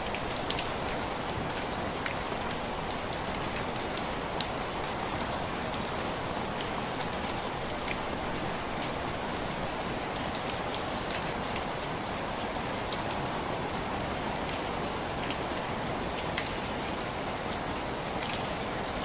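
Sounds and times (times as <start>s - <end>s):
rain tapping on window glass: 0.0s - 16.6s.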